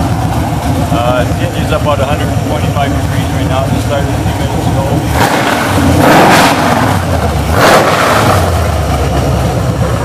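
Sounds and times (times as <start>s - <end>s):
engine revving and idling: 0.0s - 10.0s.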